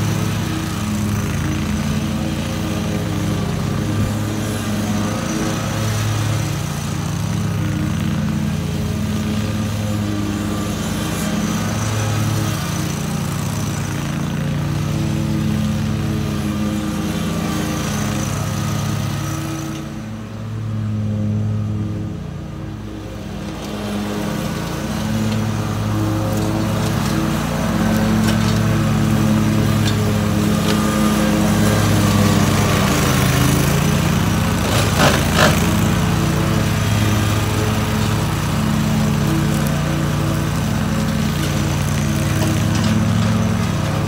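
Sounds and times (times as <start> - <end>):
riding mower engine running: 0.0 - 44.0.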